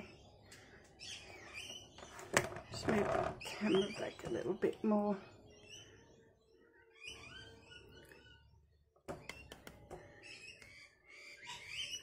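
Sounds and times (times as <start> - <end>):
faint high chirping: 0.0 - 12.0.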